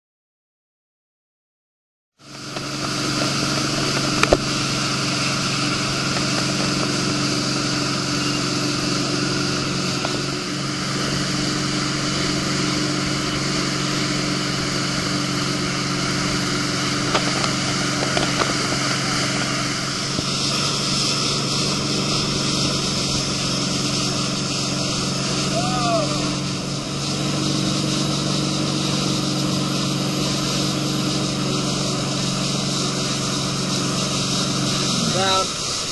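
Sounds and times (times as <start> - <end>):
boat engine running: 2.2 - 35.9
steady rushing hiss: 2.2 - 35.9.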